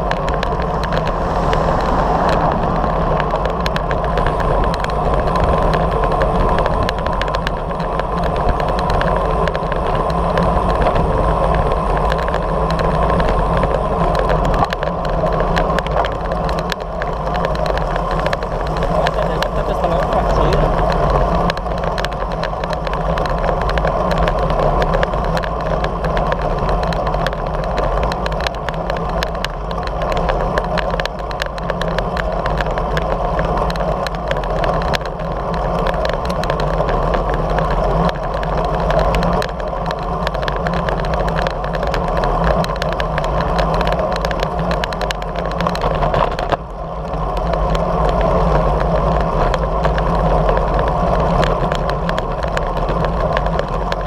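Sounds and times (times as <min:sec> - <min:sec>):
wind and road noise rushing: 0:00.0 - 0:54.0.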